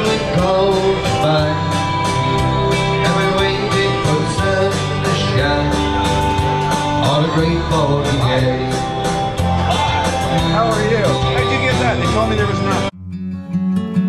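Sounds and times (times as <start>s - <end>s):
person singing: 0.0s - 11.4s
guitars strumming: 0.0s - 14.0s.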